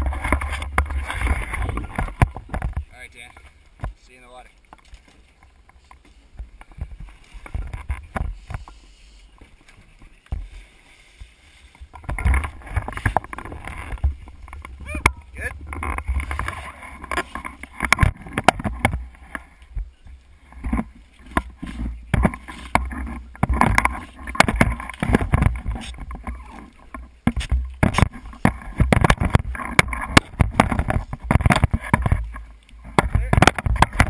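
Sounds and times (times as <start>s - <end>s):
scuba gear knocking and rustling: 0.0s - 34.0s.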